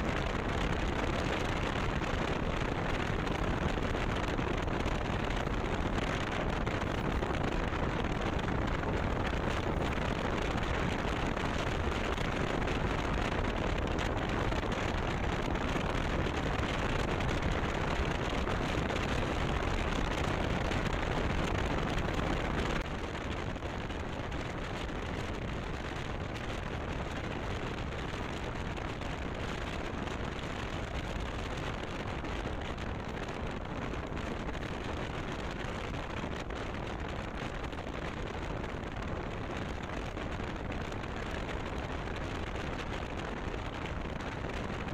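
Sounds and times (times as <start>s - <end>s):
motorcycle engine and road noise: 0.0s - 44.9s
wind rushing over microphone: 0.0s - 44.9s.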